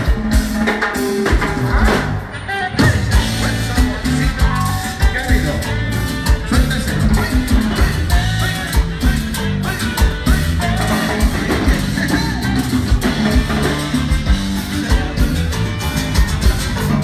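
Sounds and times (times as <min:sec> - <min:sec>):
live band dance music: 0:00.0 - 0:17.0.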